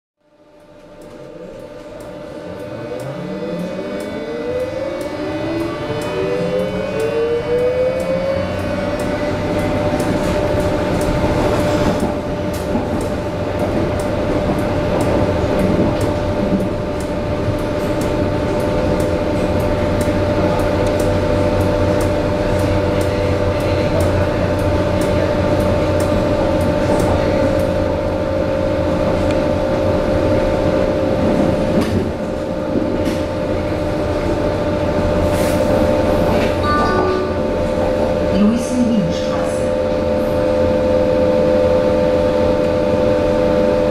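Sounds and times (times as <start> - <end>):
train rumbling along track: 0.2 - 43.9
train traction drive whine: 0.2 - 43.9.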